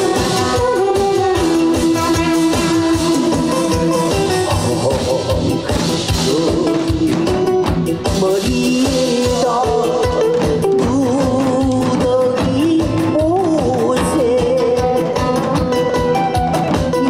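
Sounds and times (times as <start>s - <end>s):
song over loudspeakers: 0.0s - 17.0s.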